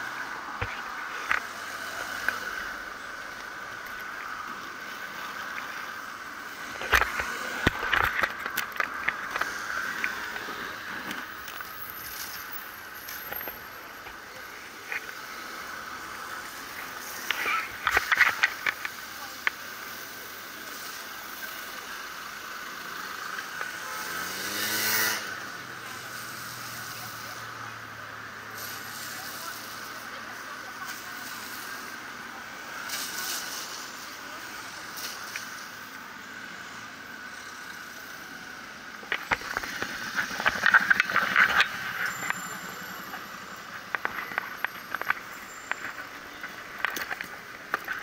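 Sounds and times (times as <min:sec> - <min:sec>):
road and tyre hiss: 0:00.0 - 0:48.0.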